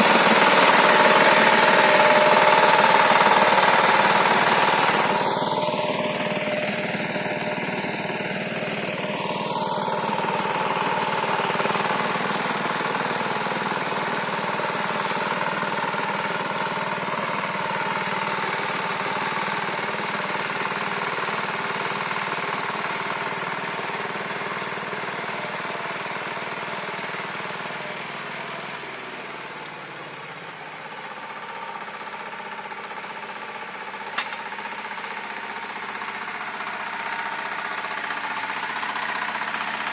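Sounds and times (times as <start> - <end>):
rotary tiller working soil: 0.0 - 39.9
tractor engine running: 0.0 - 39.9.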